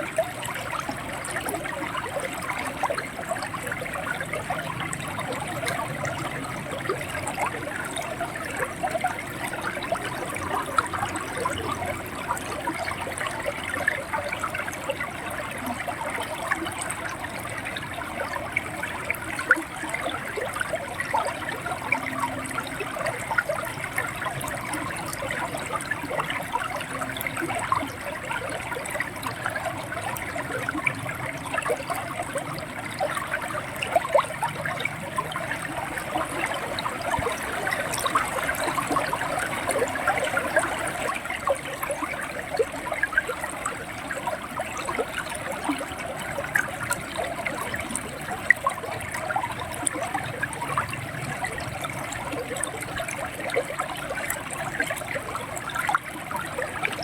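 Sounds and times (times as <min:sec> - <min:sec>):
river water rushing over stones: 0:00.0 - 0:57.0.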